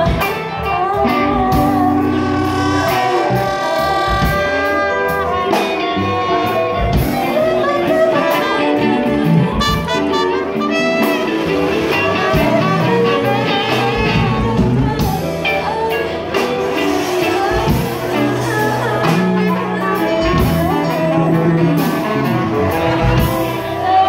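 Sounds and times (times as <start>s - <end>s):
drum kit: 0.0s - 24.0s
electric guitar: 0.0s - 24.0s
saxophone melody: 0.0s - 24.0s.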